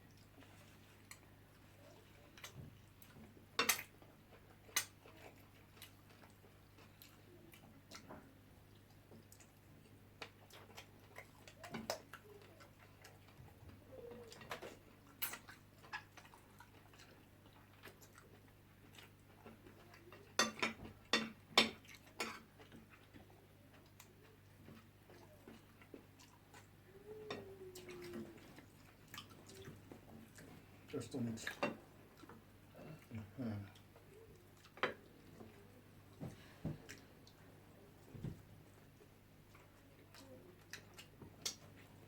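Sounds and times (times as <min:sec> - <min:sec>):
people chewing: 0:00.0 - 0:42.0.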